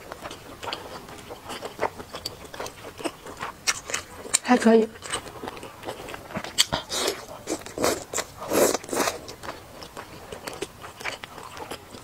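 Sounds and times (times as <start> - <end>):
biting and chewing food: 0.0 - 12.0.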